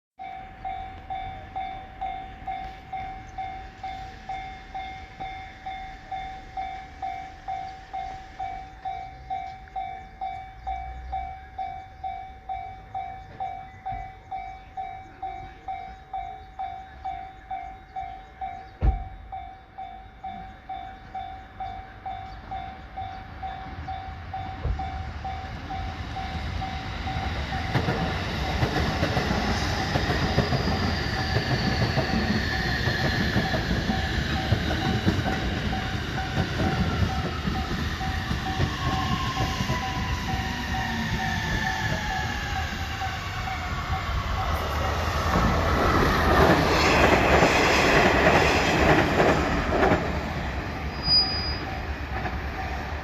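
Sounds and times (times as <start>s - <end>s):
train rumble: 0.2s - 53.0s.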